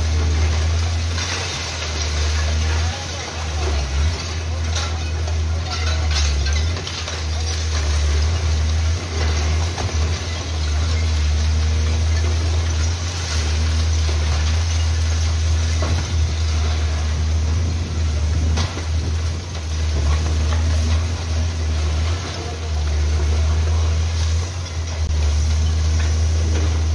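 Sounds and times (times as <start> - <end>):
concrete debris knocks and crunches: 0.0 - 26.9
diesel engine rumbling: 0.0 - 26.9.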